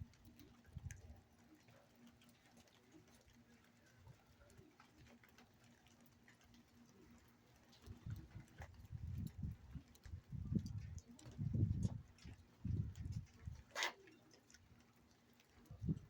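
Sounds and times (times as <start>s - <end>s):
raindrops ticking: 0.0s - 16.0s.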